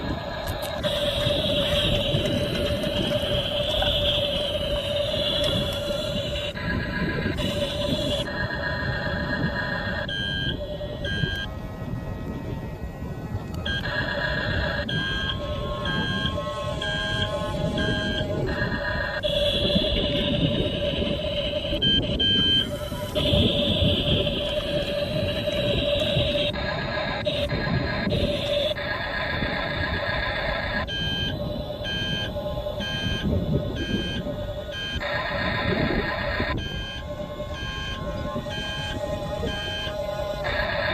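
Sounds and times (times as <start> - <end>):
electronic reversing beeps: 0.0 - 40.9
low rumble of model motor: 0.0 - 40.9
steady rattling noise: 0.0 - 40.9.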